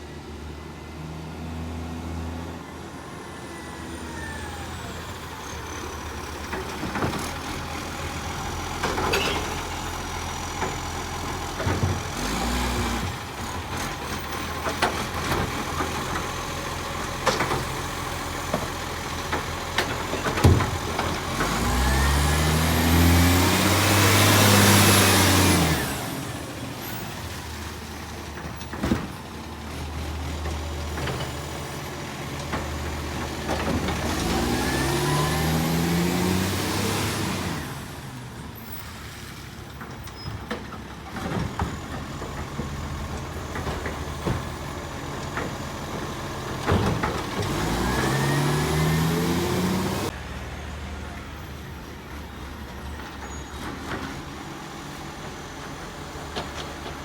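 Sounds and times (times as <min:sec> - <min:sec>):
diesel truck engine revving: 0:00.4 - 0:57.0.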